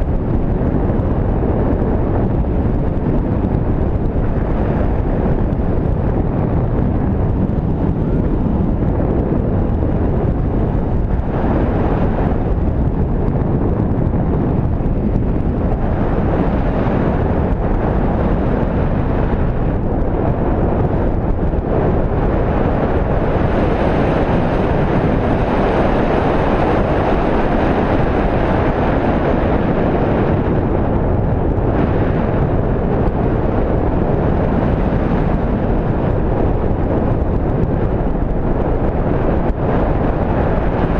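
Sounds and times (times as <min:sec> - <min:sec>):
wind roar on microphone: 0:00.0 - 0:40.9.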